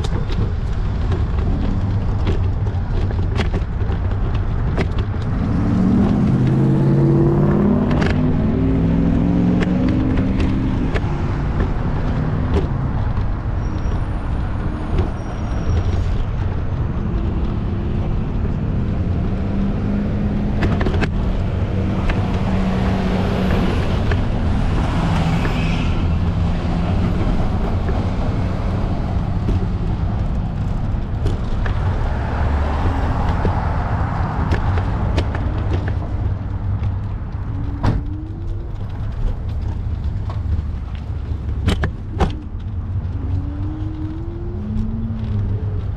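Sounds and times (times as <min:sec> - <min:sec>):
low traffic rumble: 0:00.0 - 0:45.9
motor vehicles passing: 0:00.0 - 0:45.9.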